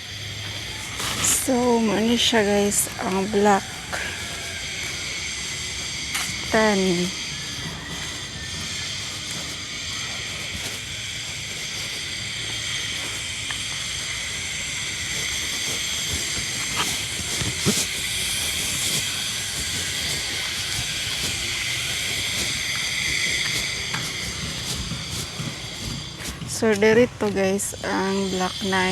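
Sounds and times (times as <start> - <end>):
high-pitched hiss: 0.0 - 28.9.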